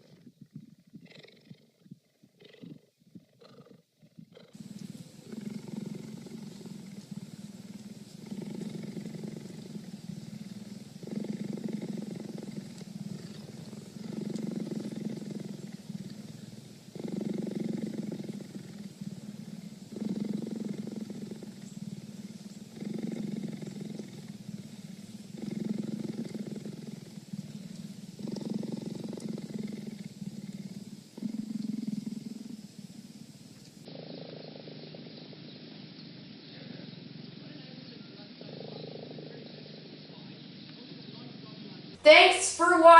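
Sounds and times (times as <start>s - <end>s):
cheetah purring: 0.0s - 42.9s.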